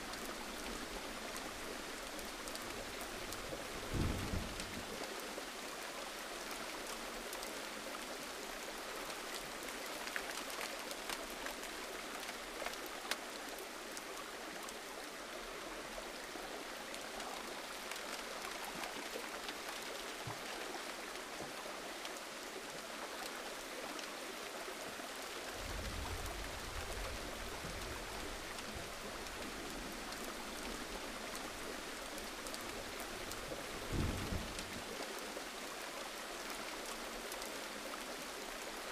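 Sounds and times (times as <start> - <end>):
gentle rain: 0.0 - 38.9.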